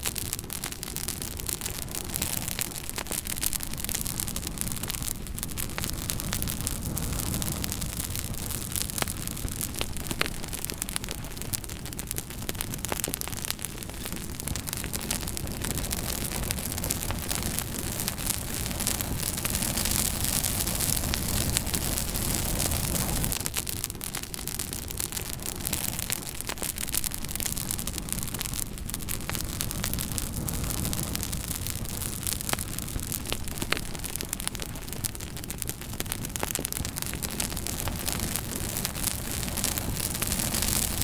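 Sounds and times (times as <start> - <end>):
fire crackling and popping: 0.0 - 41.0
wood fire hiss and rumble: 0.0 - 41.0.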